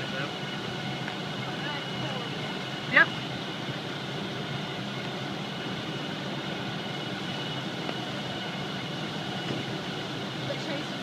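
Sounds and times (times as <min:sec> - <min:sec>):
fire engine pumps rumbling: 0:00.0 - 0:11.0.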